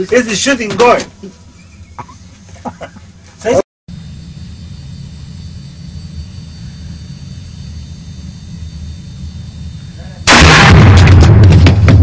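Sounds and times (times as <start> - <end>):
low steady hum: 1.2 - 11.0.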